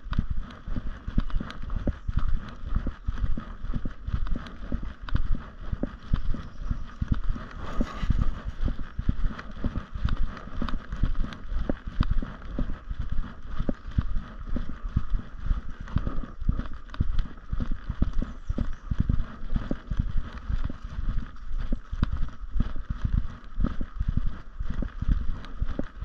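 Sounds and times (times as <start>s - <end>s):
footsteps on gravel trail: 0.0s - 26.0s.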